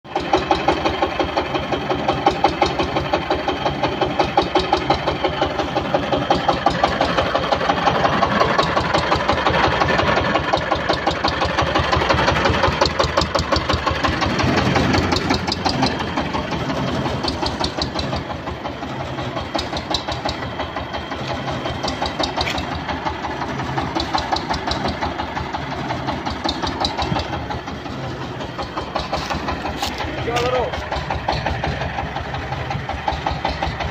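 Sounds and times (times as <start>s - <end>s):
diesel engine knocking steadily: 0.1s - 33.9s.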